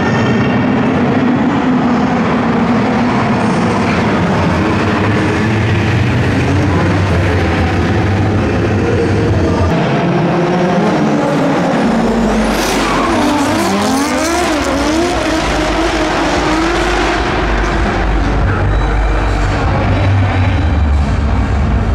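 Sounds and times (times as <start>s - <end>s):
car engines revving: 0.0s - 21.9s.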